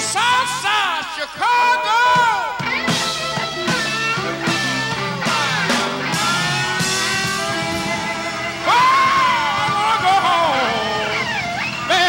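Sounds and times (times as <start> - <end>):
bass notes: 1.9 - 12.0
electric guitar lines: 2.1 - 12.0.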